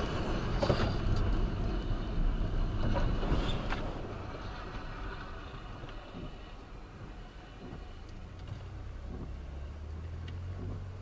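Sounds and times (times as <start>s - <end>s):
tyres on wet road: 0.0s - 11.0s.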